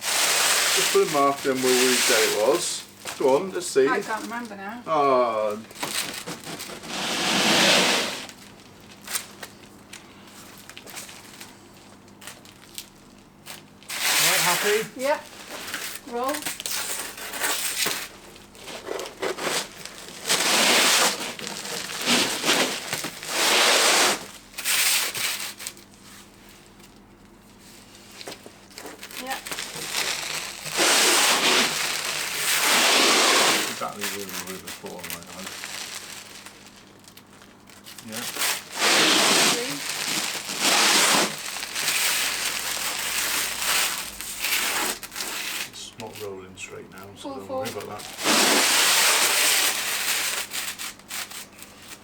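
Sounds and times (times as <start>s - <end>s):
roofing felt crackling and rustling: 0.0s - 52.0s.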